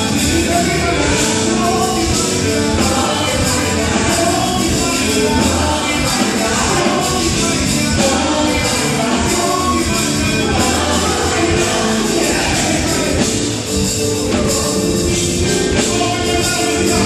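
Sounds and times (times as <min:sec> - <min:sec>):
band playing: 0:00.0 - 0:17.0
drums: 0:00.0 - 0:17.0
gospel group singing: 0:00.0 - 0:17.0.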